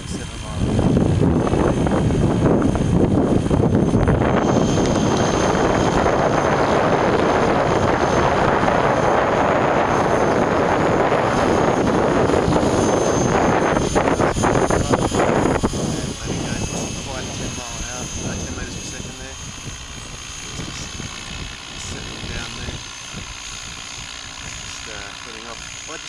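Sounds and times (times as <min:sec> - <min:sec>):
faint high whine: 0:00.0 - 0:26.0
model helicopter rotor noise: 0:00.0 - 0:26.0.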